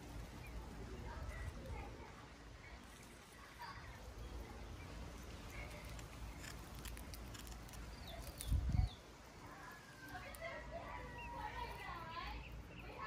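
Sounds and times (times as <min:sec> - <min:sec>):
nestling bird chirping: 0:00.0 - 0:13.0.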